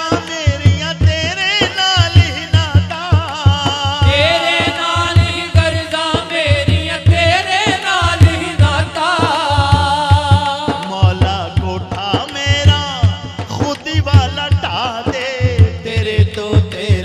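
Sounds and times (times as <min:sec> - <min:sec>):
man singing: 0:00.0 - 0:17.0.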